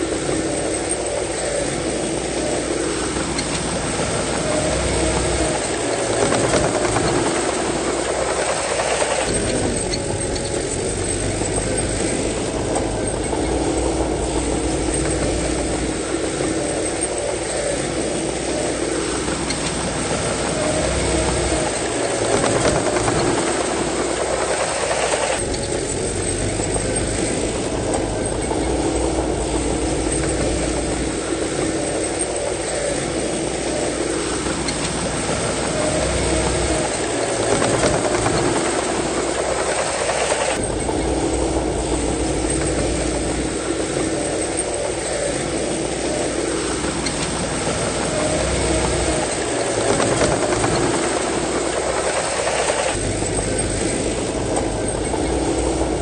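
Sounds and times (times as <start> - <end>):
diesel engine low rumble: 0.0 - 56.0.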